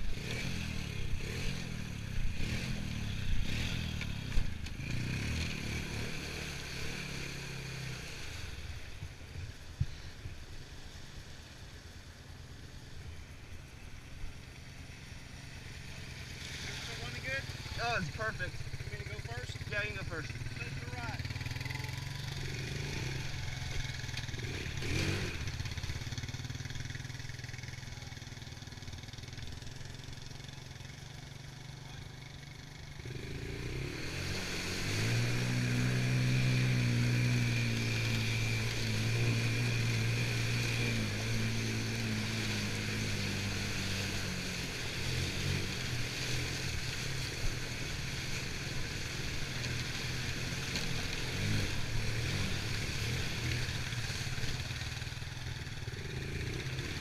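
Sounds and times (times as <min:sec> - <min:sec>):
atv engine running and revving: 0:00.0 - 0:57.0.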